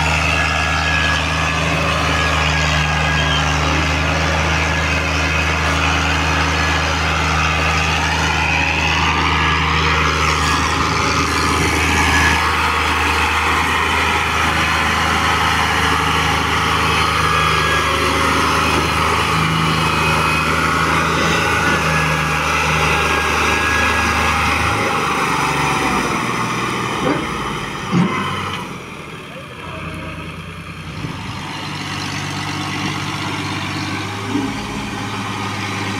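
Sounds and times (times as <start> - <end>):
diesel tractor engine under load: 0.0 - 35.9.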